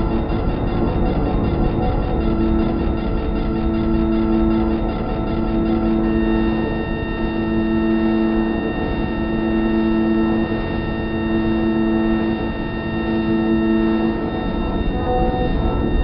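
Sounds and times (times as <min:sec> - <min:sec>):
ambient drone music: 0:00.0 - 0:16.0.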